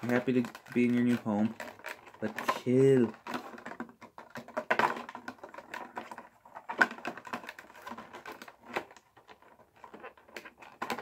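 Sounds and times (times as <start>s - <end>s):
cardboard box clicks and rustles: 0.0s - 11.0s.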